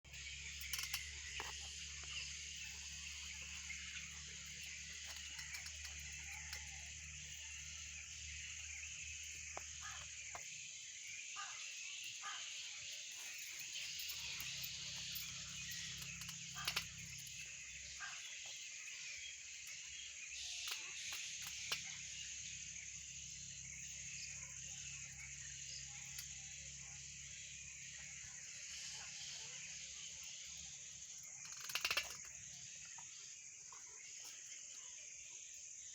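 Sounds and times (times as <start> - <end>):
insect chorus: 0.0 - 35.9
bird calls and chirps: 0.1 - 35.9.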